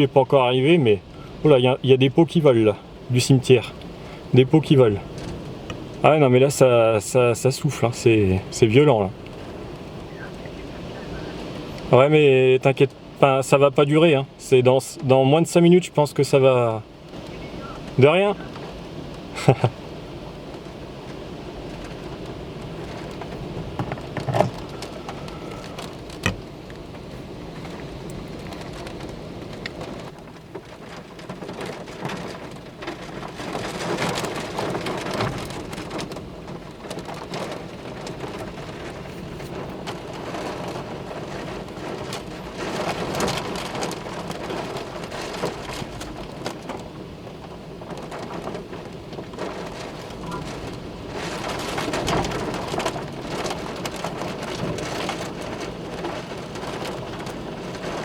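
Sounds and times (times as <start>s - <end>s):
gusty wind: 0.0s - 58.0s
heavy rain pouring: 0.0s - 58.0s.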